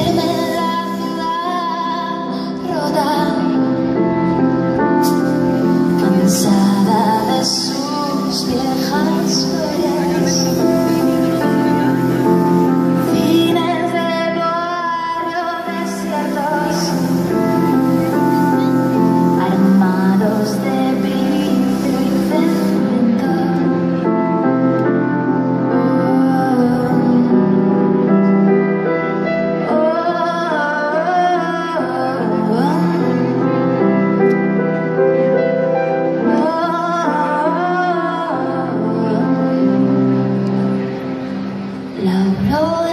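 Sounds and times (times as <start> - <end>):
woman singing: 0.0 - 24.4, 25.5 - 28.0, 29.6 - 33.7, 36.2 - 40.6, 42.0 - 42.9
keyboard chords: 0.0 - 42.9.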